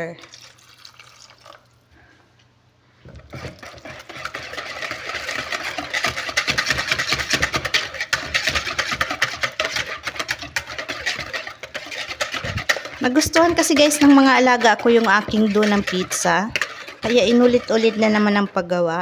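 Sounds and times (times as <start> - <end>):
whisk beating batter in bowl: 3.0 - 18.8.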